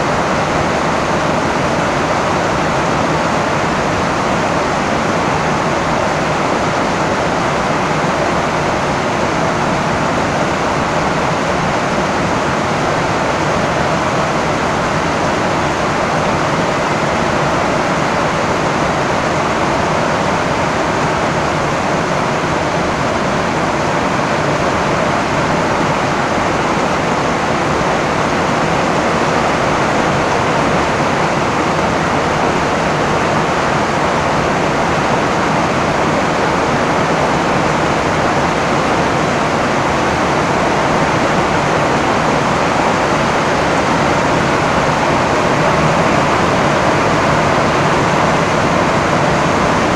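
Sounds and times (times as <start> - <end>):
rain on a tin roof: 0.0 - 49.9.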